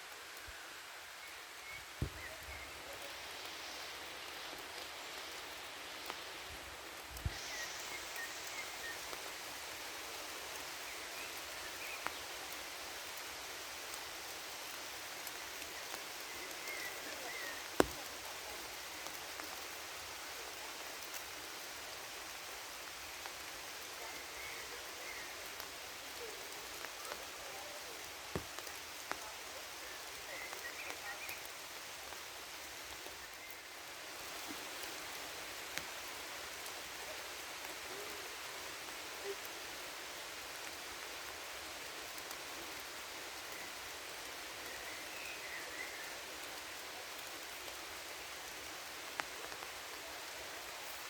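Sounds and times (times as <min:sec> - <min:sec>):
steady rain hiss: 0:00.0 - 0:51.0.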